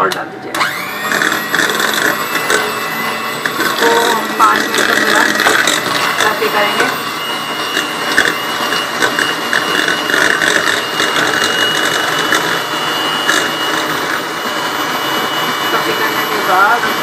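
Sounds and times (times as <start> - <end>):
electric mixer whirring: 0.0 - 17.0.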